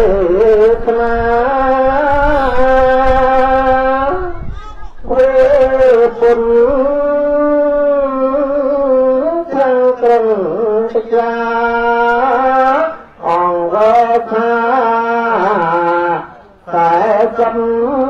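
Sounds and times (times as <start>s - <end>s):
man chanting through microphone: 0.0s - 18.0s.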